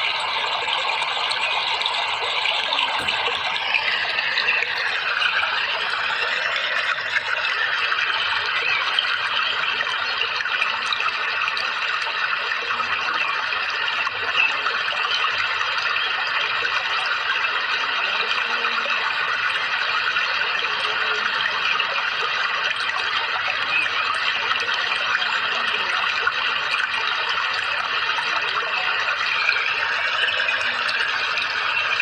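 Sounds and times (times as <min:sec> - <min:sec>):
running splashing water: 0:00.0 - 0:13.1, 0:13.8 - 0:32.0.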